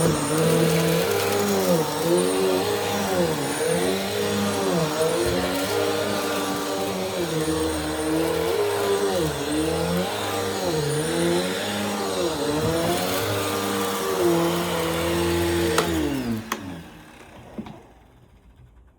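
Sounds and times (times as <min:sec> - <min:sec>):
upright vacuum cleaner running: 0:00.0 - 0:18.3.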